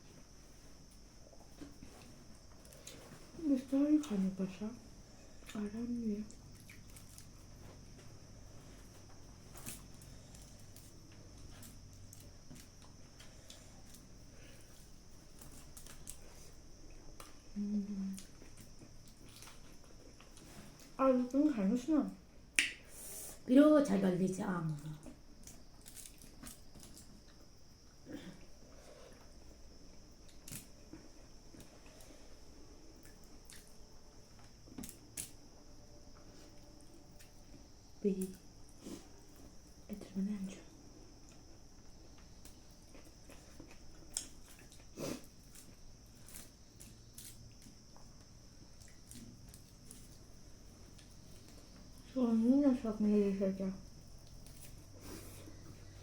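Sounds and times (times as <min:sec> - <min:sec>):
faint high-pitched hiss: 0:00.0 - 0:56.0
soft chewing: 0:00.1 - 0:04.4, 0:05.1 - 0:21.0, 0:24.7 - 0:52.2, 0:53.8 - 0:56.0.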